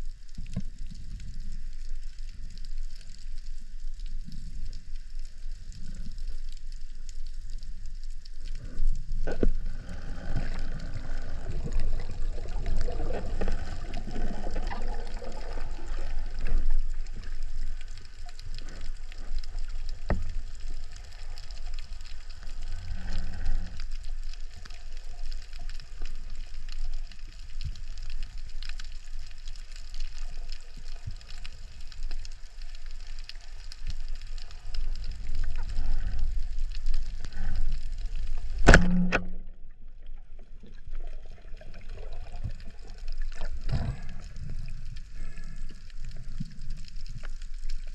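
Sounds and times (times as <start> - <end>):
muffled underwater rumble: 0.0 - 47.9.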